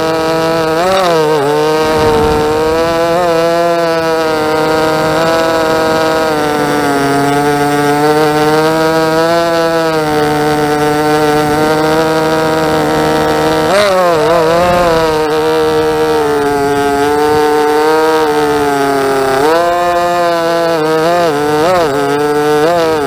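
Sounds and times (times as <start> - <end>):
quadcopter motors buzzing: 0.0 - 23.0.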